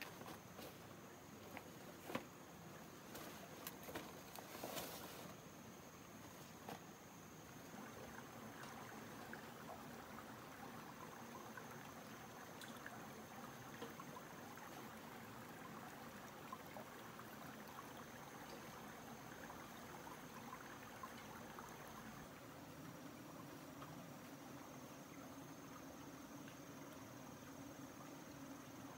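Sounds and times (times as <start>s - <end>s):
stream trickling over rocks: 0.0s - 28.9s.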